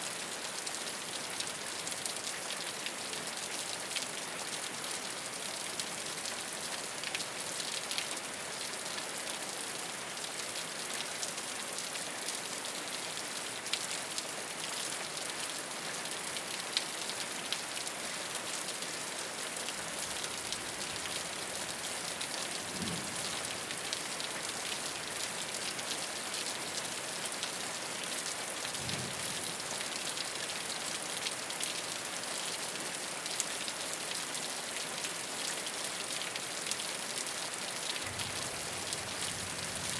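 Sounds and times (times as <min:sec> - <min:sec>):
rain on a rooftop: 0:00.0 - 0:39.9.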